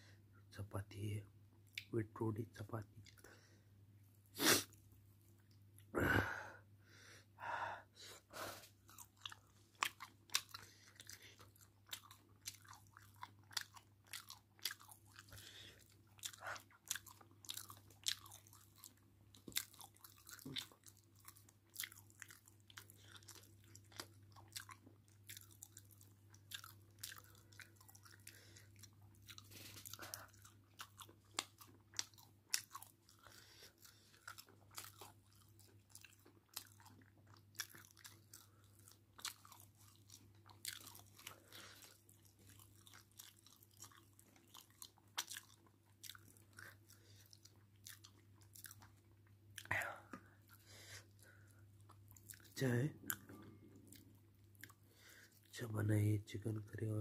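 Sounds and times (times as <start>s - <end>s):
person chewing with wet mouth clicks: 8.9s - 55.5s.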